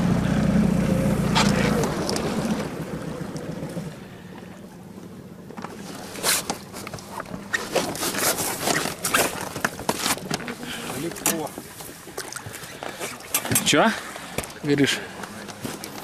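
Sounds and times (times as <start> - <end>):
outboard motor: 0.0 - 16.0.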